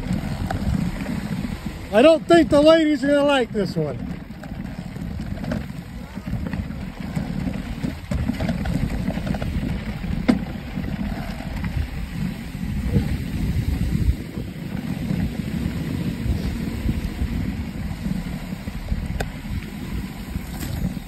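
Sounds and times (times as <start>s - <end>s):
mountain bike rattling over rocks: 0.0s - 21.0s
wind on microphone: 0.0s - 21.0s.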